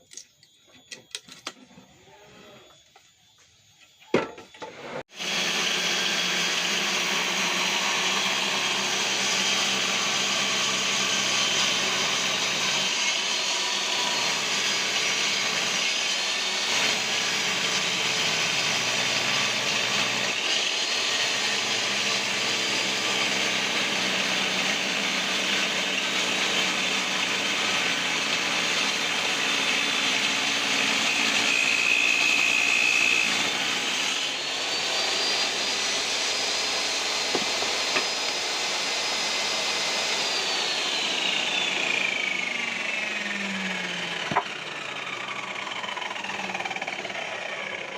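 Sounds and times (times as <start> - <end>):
power saw whirring: 3.9 - 47.9.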